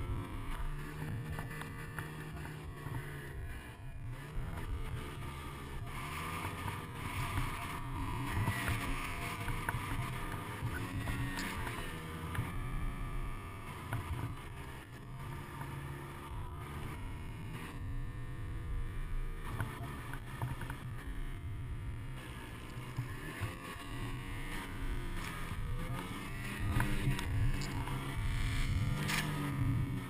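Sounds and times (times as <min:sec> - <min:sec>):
snowmobile engine running hard: 0:00.0 - 0:30.0.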